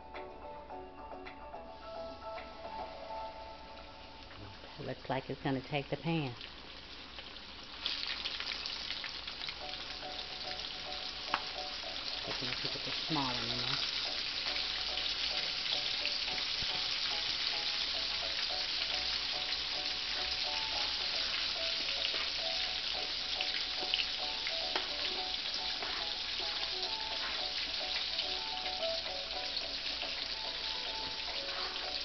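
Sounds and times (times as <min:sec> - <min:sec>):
meat sizzling in hot oil: 0:02.6 - 0:32.0.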